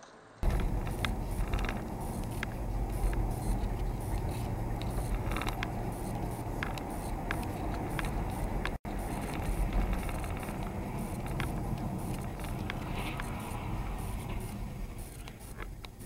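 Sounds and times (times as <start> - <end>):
car road and engine noise: 0.4 - 16.0
sharp clicks and rattles: 0.4 - 16.0.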